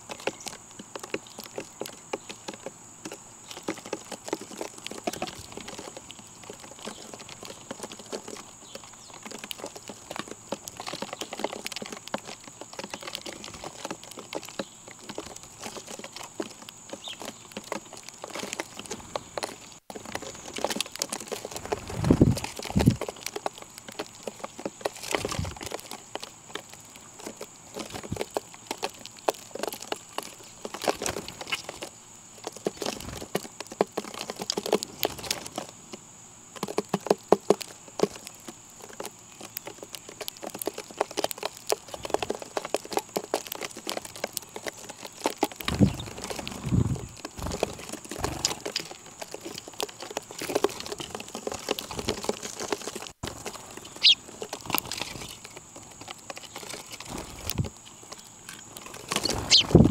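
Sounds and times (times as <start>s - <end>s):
birds pecking on hard surface: 0.0s - 59.9s.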